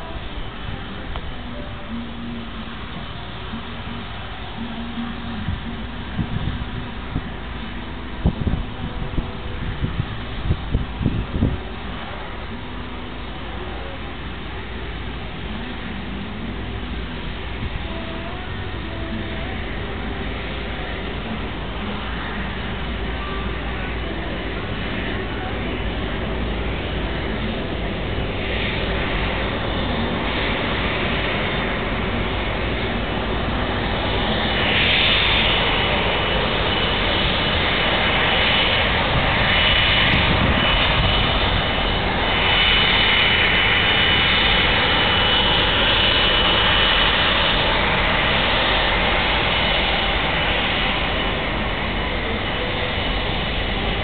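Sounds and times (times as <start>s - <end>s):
jet engines running low power: 0.0s - 54.0s.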